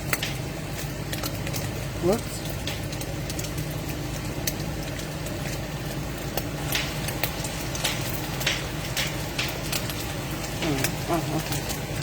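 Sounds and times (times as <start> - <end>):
crackles and pops: 0.0 - 12.0
sausage sizzling in a frying pan: 0.0 - 12.0.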